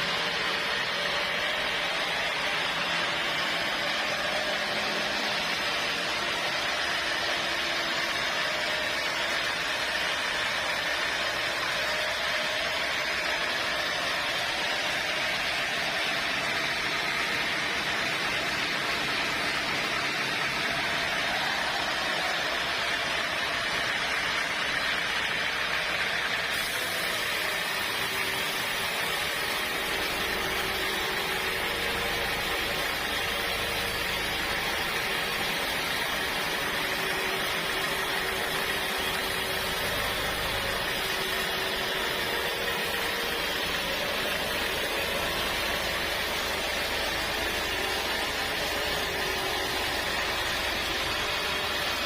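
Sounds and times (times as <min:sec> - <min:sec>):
sawmill saw whirring: 0:00.0 - 0:52.0.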